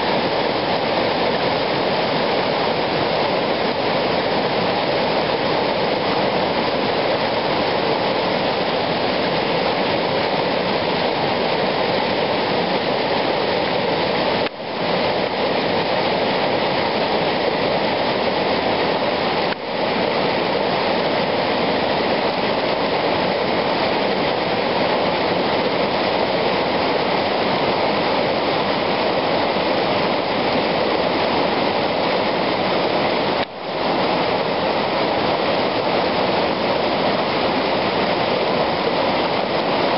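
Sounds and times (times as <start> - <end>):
water rushing over boulders: 0.0 - 39.9.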